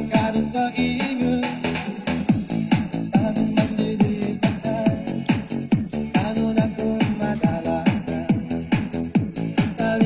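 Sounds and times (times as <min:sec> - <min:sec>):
kick drum beat: 0:00.0 - 0:01.2, 0:01.9 - 0:10.0
electronic dance music: 0:00.0 - 0:10.0.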